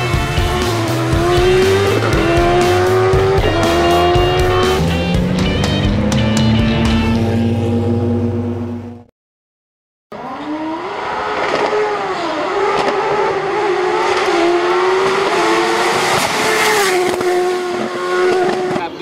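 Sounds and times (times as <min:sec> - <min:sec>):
race car engine accelerating: 0:00.0 - 0:09.0, 0:10.1 - 0:19.0.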